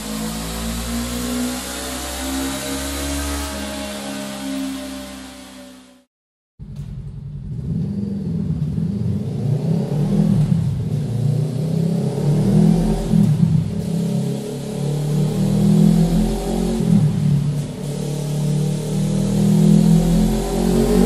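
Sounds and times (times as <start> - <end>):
motorcycle engine revving: 0.0 - 6.1, 7.3 - 21.0.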